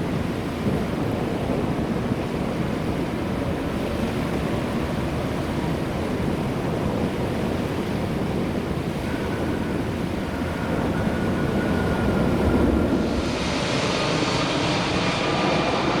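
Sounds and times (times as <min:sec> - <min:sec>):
jet airliner landing: 0:00.0 - 0:16.0.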